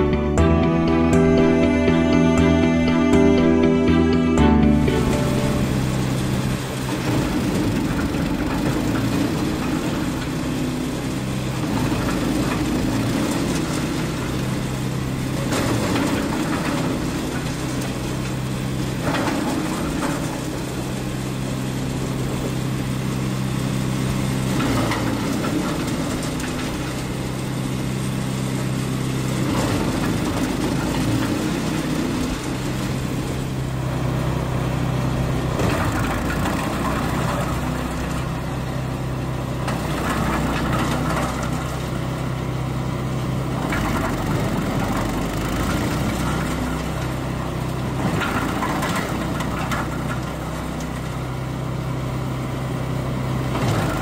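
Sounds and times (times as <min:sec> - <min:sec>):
petrol engine running: 0:00.0 - 0:54.0
wood chipper chipping branches: 0:04.8 - 0:54.0.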